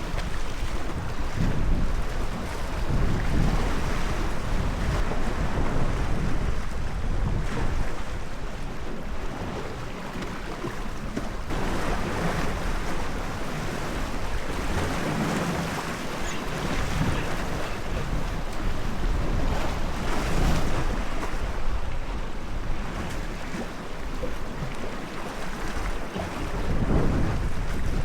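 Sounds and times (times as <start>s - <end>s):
sea surf: 0.0s - 28.0s
wind buffeting microphone: 0.0s - 28.0s.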